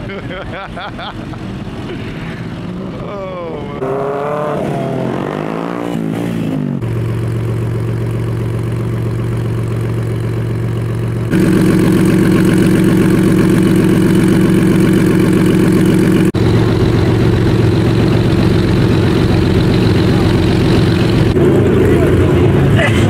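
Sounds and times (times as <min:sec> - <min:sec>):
car engines idling: 0:00.0 - 0:04.0, 0:06.8 - 0:23.0.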